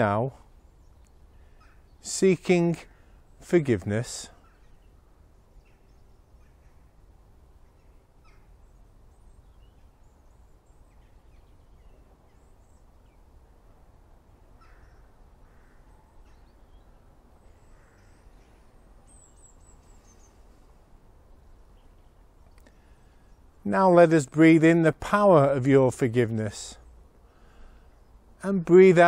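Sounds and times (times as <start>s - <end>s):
distant bird calls: 0.0s - 29.0s.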